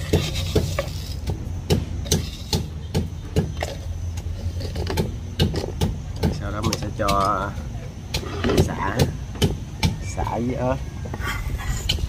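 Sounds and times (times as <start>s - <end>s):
pestle pounding in mortar: 0.0s - 10.2s.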